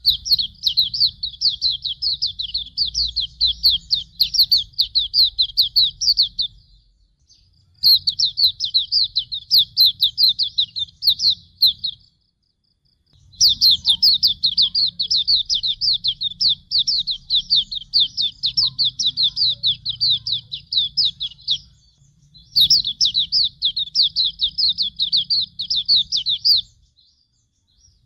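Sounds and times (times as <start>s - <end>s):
bird singing rapid high chirps: 0.0s - 12.4s, 13.0s - 28.0s.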